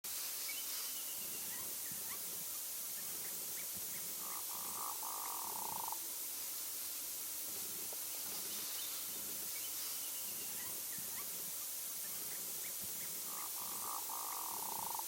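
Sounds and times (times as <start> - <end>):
steady hiss: 0.1 - 15.0.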